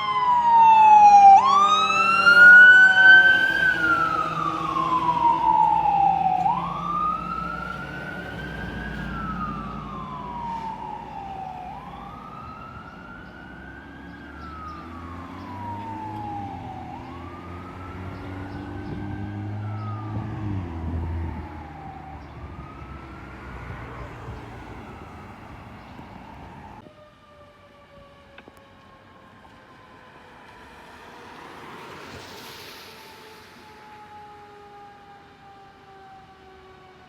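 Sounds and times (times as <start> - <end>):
fire truck siren wailing: 0.0 - 37.0.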